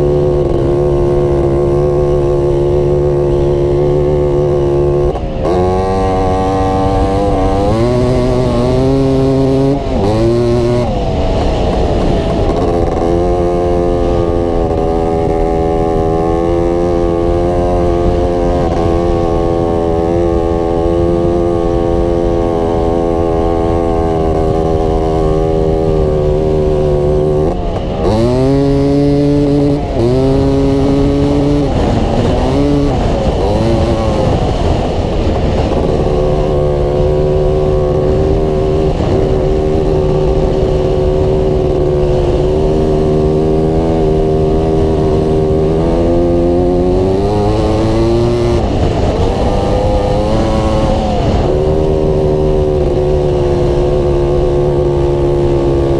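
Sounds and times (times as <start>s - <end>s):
off-road vehicle engine running: 0.0s - 55.9s
wind hissing on microphone: 0.0s - 55.9s.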